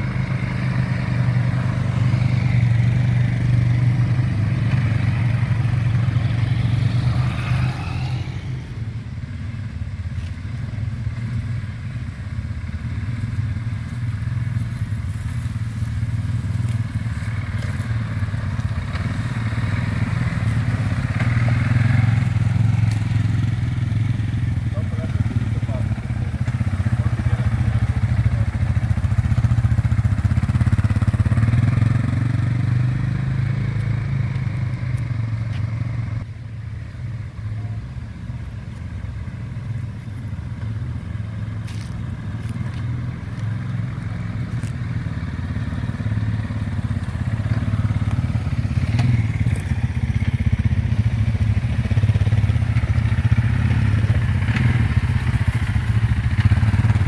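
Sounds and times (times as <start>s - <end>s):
quad bike engines droning: 0.0s - 57.0s.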